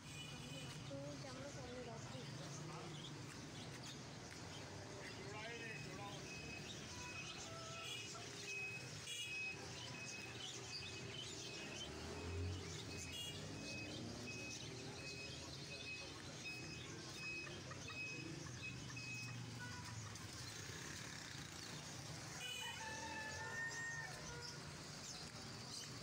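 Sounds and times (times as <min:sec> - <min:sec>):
market street hum: 0:00.0 - 0:26.0
caged birds chirping: 0:00.4 - 0:26.0.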